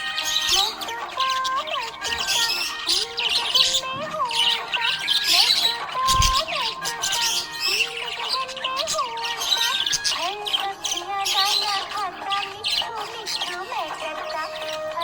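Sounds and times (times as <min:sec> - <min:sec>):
background music: 0:00.0 - 0:15.0
budgerigars chirping and chattering: 0:00.0 - 0:15.0.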